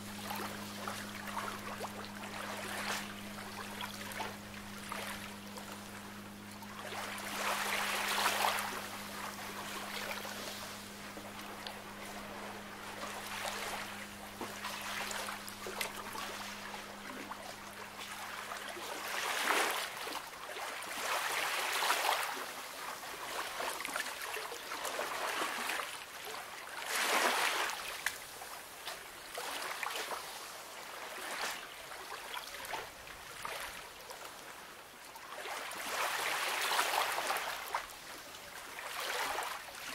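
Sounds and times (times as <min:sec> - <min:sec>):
gentle sea waves washing in: 0:00.0 - 0:39.9
low steady hum: 0:00.0 - 0:39.9.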